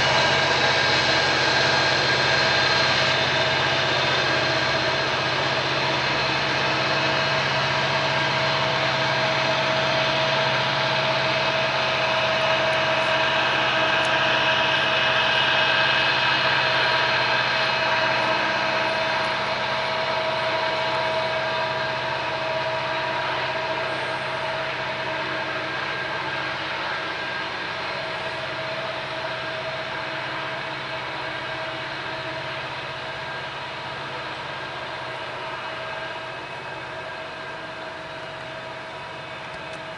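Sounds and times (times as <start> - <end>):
distant locomotive engine drone: 0.0 - 39.9
locomotive whine: 0.0 - 39.9.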